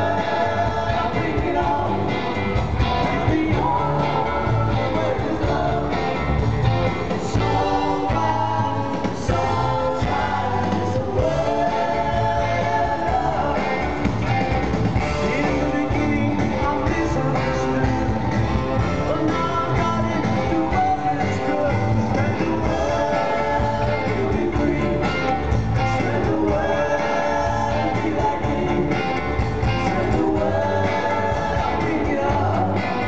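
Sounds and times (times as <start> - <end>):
electric bass: 0.0 - 33.0
electric guitar: 0.0 - 33.0
keyboards: 0.0 - 33.0
man singing lead vocal: 0.0 - 33.0
steady drum beat: 0.0 - 33.0.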